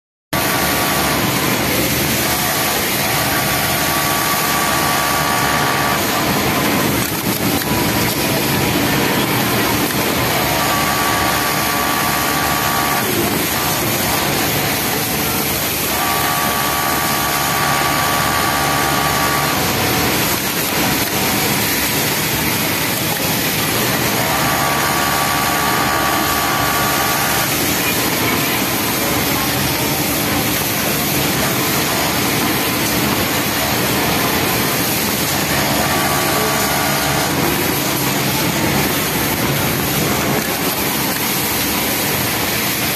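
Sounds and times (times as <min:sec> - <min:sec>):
background machine noise: 0:00.4 - 0:42.9
sewing machine stitching: 0:00.4 - 0:42.9.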